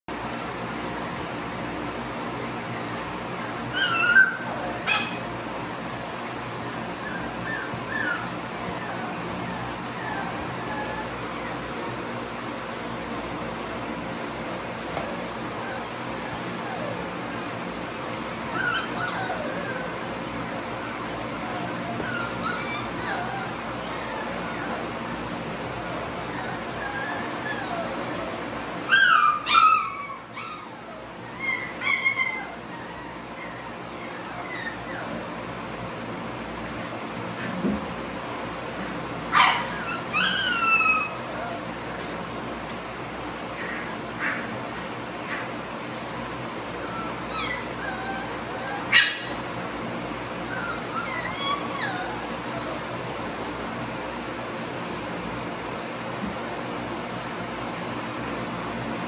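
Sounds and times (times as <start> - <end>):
puppies whining and yelping: 0.1 - 37.5, 38.1 - 55.8.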